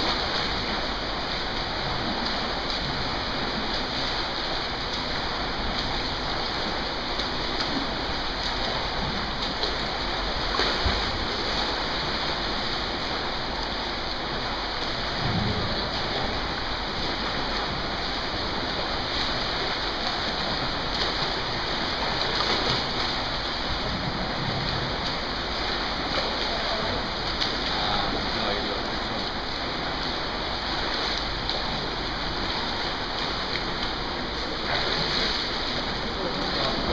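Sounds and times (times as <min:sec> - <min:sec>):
swimmers splashing water: 0:00.0 - 0:36.9.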